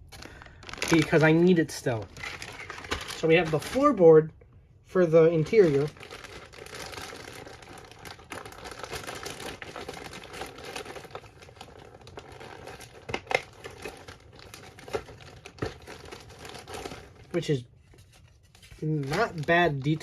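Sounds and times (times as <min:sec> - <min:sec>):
packaging crinkling and rustling: 0:00.0 - 0:04.1, 0:05.2 - 0:20.0.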